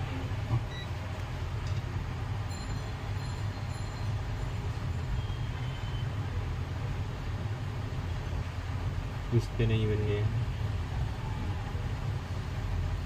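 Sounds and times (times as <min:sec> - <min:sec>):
continuous rumbling noise: 0:00.0 - 0:13.0.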